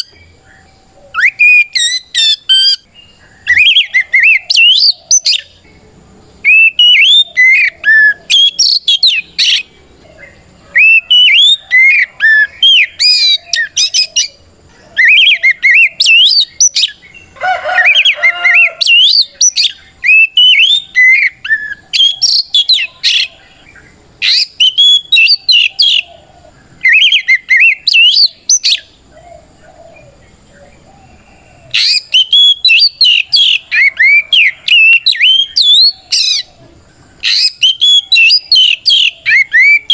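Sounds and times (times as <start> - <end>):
bird singing whistled phrases: 0.0 - 5.6, 6.4 - 14.4, 15.0 - 26.1, 26.8 - 28.9, 31.7 - 36.5, 37.2 - 39.9
bird rasping call: 0.0 - 5.7, 6.4 - 30.2, 30.8 - 39.9.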